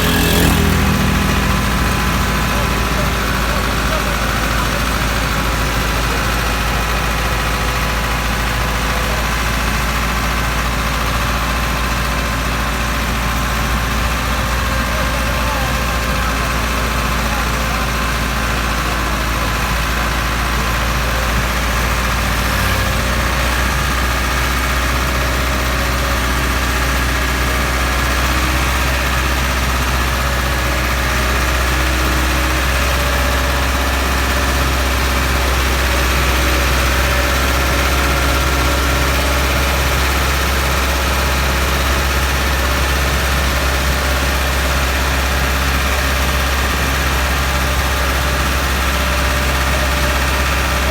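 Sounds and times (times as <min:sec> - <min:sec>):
diesel tractor engine droning: 0:00.0 - 0:50.9.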